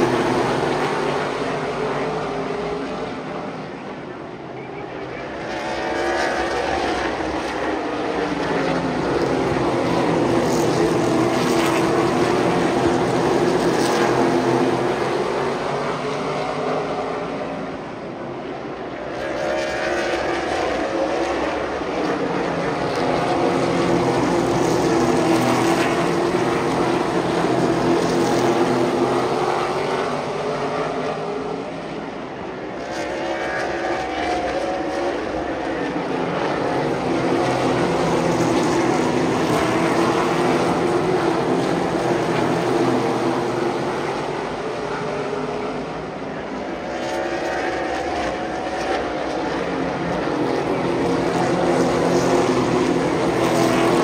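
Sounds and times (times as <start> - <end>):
race car engines at speed: 0.0 - 54.0.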